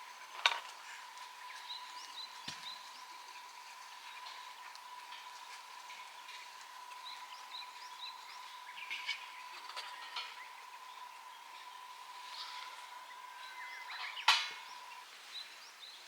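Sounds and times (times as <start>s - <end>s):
small birds chirping: 1.0s - 16.0s.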